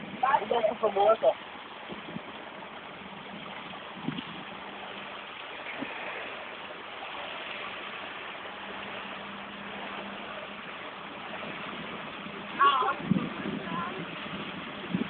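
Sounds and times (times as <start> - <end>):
constant low hum: 0.0 - 15.0
water and air noise: 0.0 - 15.0.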